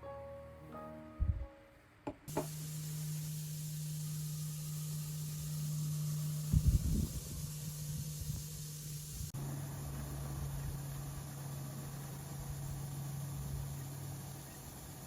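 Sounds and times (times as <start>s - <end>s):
appliance humming and hissing: 2.1s - 15.0s.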